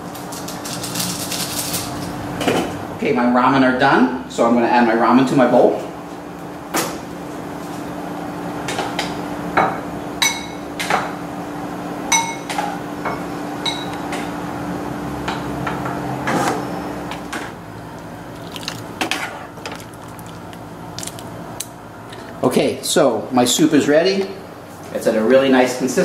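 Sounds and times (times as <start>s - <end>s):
steady hum: 1.0s - 26.0s.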